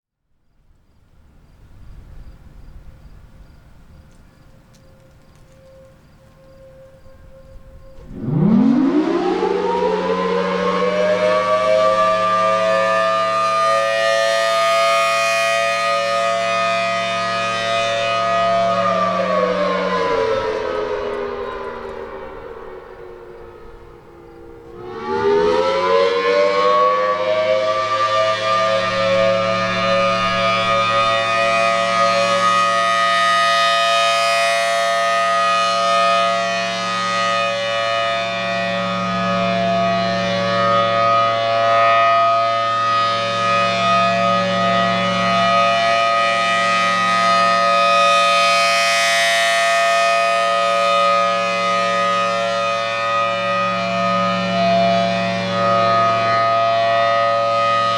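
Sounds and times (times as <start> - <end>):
warning siren wailing: 4.1 - 57.9.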